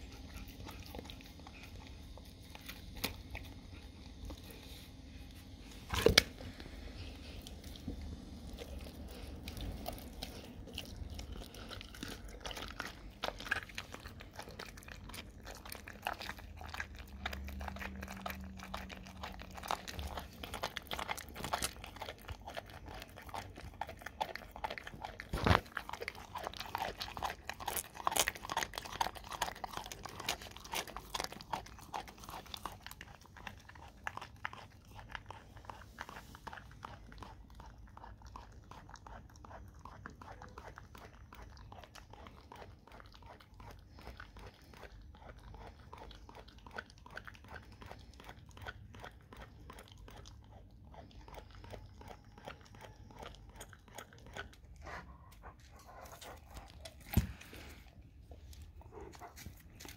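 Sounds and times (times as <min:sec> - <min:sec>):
dog chewing and crunching: 0:00.0 - 0:59.9.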